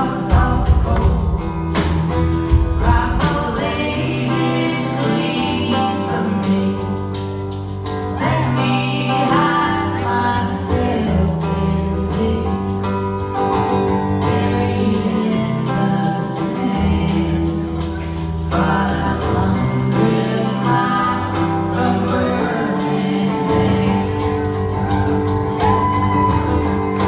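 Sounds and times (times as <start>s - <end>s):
drum kit: 0.0s - 27.0s
electric guitar: 0.0s - 27.0s
person singing: 0.0s - 27.0s.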